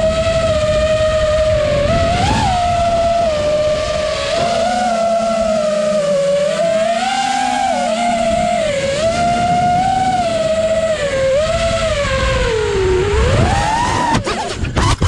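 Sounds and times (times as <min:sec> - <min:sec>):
quadcopter propellers whining: 0:00.0 - 0:15.0.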